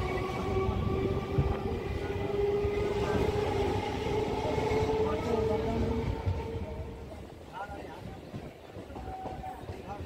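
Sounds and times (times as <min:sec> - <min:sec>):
steady train whine: 0:00.0 - 0:10.0
train coach rumbling and rattling: 0:00.0 - 0:10.0.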